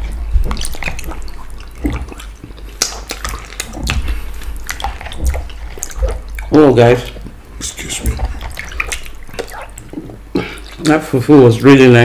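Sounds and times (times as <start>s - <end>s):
wet sticky eating sounds: 0.0s - 12.0s.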